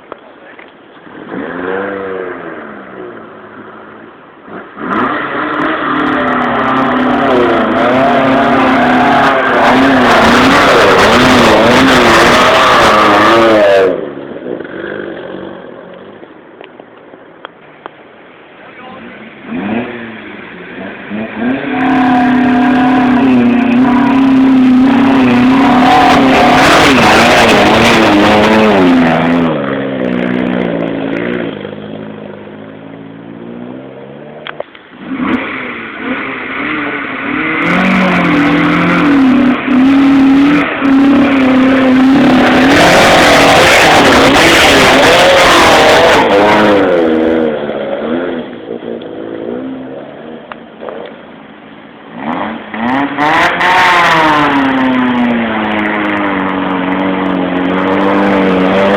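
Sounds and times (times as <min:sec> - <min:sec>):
car engine revving hard: 0:01.1 - 0:03.0, 0:04.4 - 0:14.1, 0:19.0 - 0:32.4, 0:33.4 - 0:50.4, 0:52.0 - 0:58.9.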